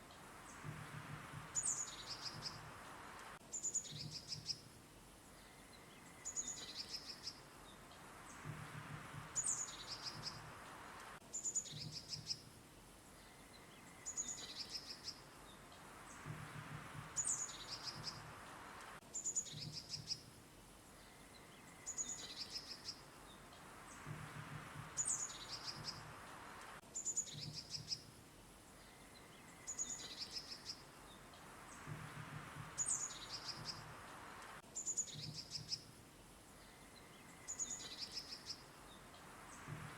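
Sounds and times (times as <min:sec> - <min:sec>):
faint background hiss: 0:00.0 - 0:39.9
small songbirds chirping: 0:00.0 - 0:39.9.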